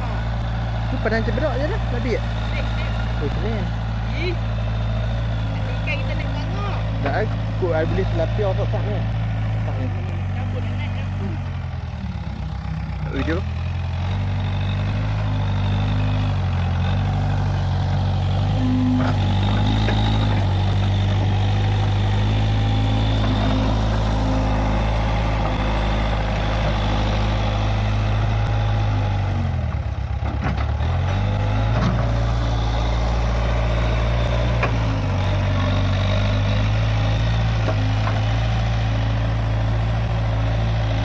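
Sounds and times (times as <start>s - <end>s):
backhoe engine running: 0.0s - 41.0s.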